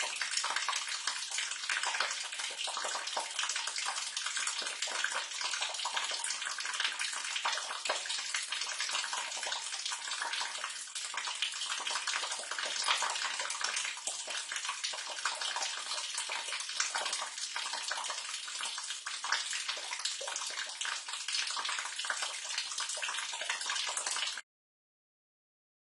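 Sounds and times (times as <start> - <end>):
water pouring into sewer: 0.0 - 24.4.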